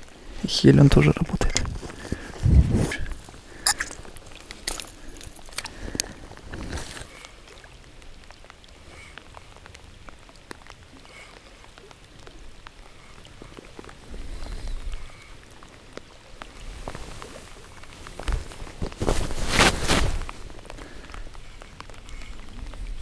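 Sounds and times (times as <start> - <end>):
rain pattering on water: 0.0 - 23.0.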